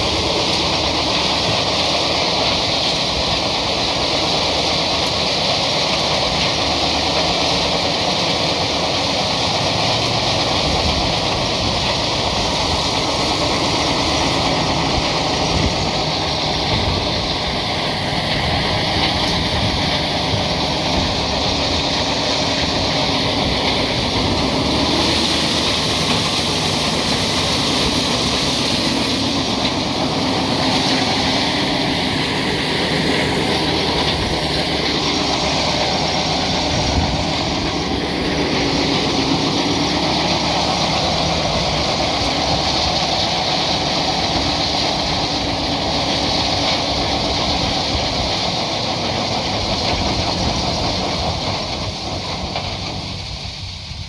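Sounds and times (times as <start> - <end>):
corn sheller clattering: 0.0 - 53.8.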